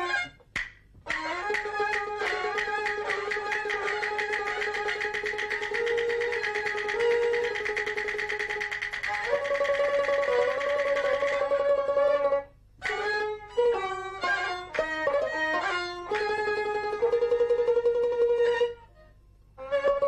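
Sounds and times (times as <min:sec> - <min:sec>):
high-pitched fiddle melody: 0:00.0 - 0:00.4, 0:01.1 - 0:20.0.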